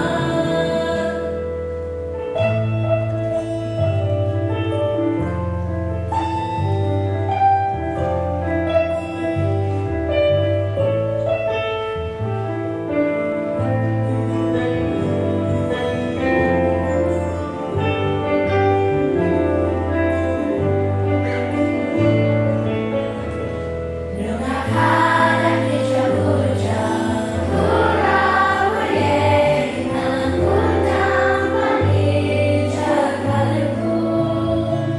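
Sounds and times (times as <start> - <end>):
instrumental music with chords: 0.0 - 34.9.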